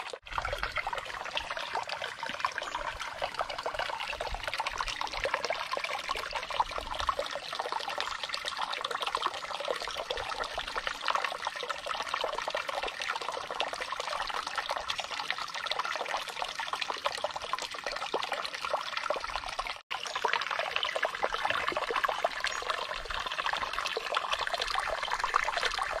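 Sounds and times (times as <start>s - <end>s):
stream trickling over rocks: 0.0s - 26.0s.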